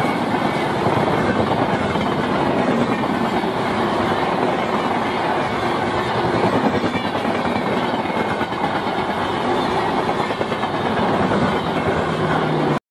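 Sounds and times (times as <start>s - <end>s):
train wheels rumbling and rattling: 0.0s - 12.8s.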